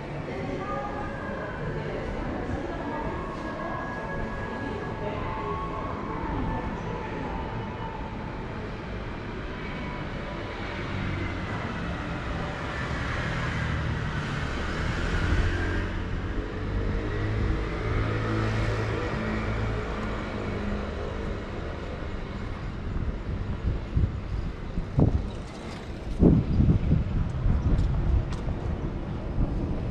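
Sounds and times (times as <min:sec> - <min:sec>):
vehicles passing: 0:00.0 - 0:29.9.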